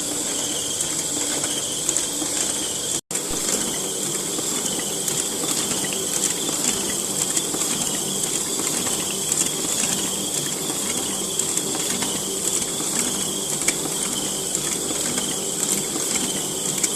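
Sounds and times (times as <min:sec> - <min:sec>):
printing press clattering: 0:00.0 - 0:16.9.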